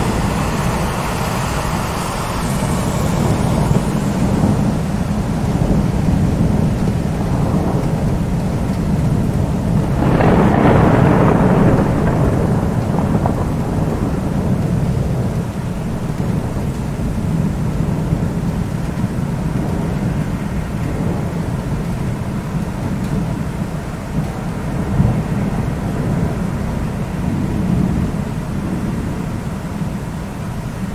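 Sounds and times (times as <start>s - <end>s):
loud peal of thunder: 0.0s - 30.9s
low rumbling thunder: 0.0s - 30.9s
steady rain: 0.0s - 30.9s.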